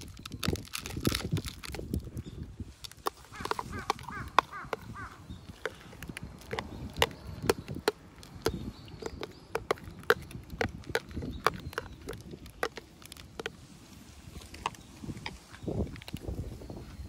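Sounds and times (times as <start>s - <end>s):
cats crunching dry food: 0.0s - 16.5s.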